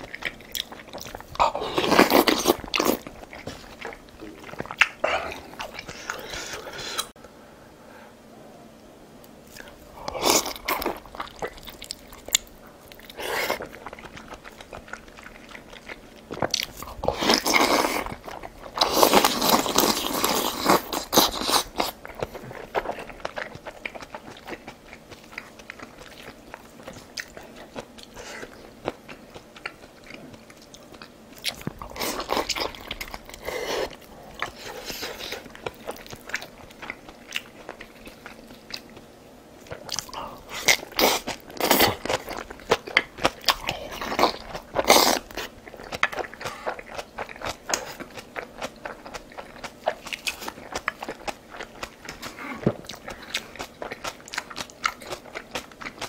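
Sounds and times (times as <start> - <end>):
person chewing and crunching food: 0.0 - 7.2, 9.4 - 56.0.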